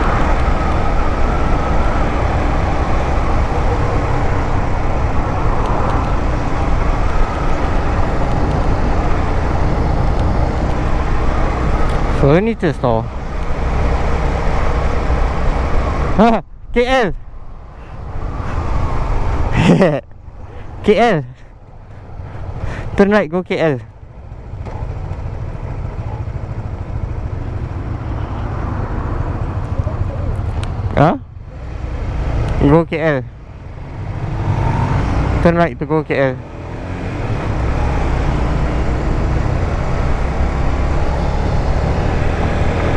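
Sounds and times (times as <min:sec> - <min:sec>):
motorcycle engine riding: 0:00.0 - 0:16.2, 0:23.8 - 0:32.8, 0:33.4 - 0:42.9
road and wind noise: 0:00.0 - 0:42.9.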